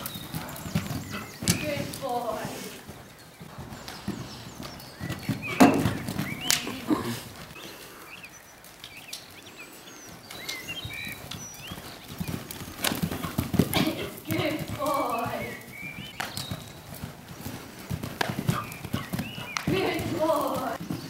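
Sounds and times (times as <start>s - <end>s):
horse hoofbeats on sand: 0.0s - 21.0s.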